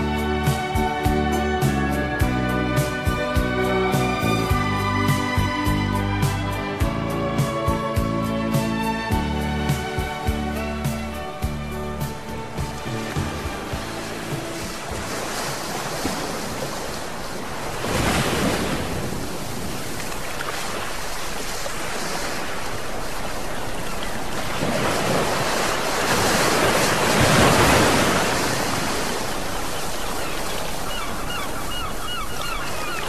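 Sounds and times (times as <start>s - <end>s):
sea waves washing onto shore: 0.0s - 33.0s.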